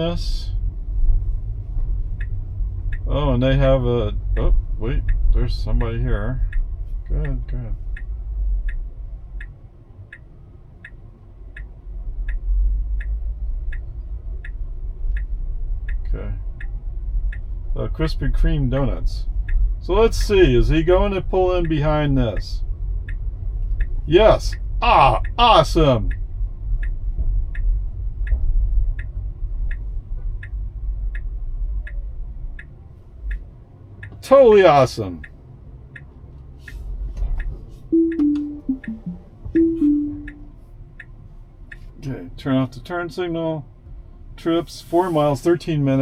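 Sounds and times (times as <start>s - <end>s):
road rumble in car cabin: 0.0s - 46.0s
turn signal ticking: 0.0s - 46.0s.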